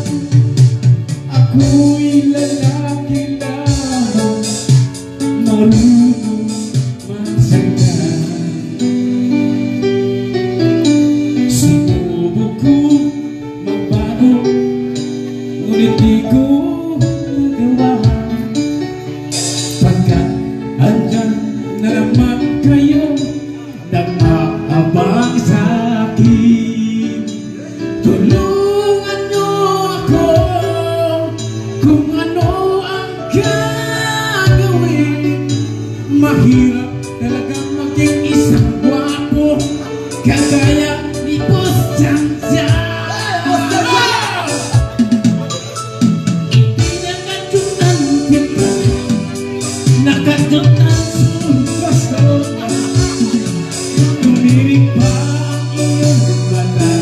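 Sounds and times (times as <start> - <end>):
backing music: 0.0 - 57.0
man singing into a microphone: 0.0 - 57.0.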